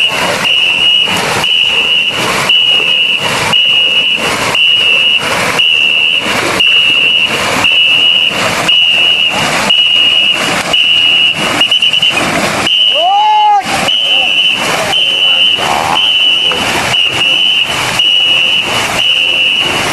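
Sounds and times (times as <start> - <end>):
shrill whistle blasts: 0.0 - 19.8
paddles splashing in water: 0.0 - 19.9.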